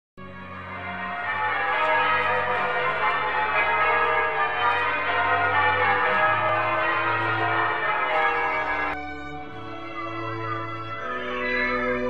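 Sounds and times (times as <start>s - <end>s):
church bells pealing: 0.2s - 12.0s.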